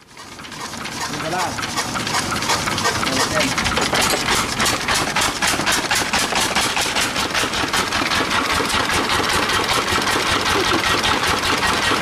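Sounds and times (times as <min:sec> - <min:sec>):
flywheel engine chugging: 0:00.0 - 0:12.0.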